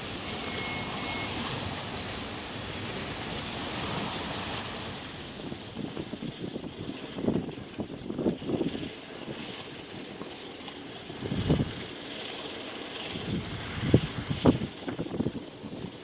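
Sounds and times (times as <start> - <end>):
wind buffeting microphone: 0.0 - 12.3, 12.9 - 16.0.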